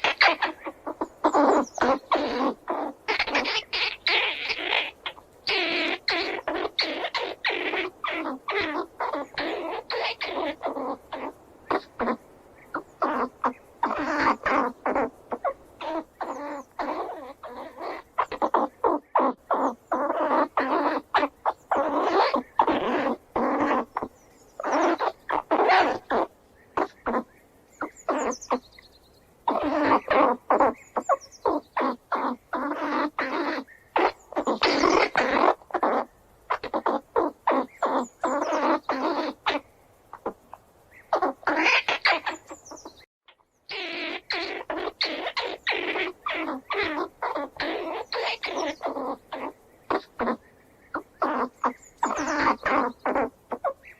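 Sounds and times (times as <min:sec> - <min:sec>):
squirrels squealing and chattering: 0:00.0 - 0:53.9.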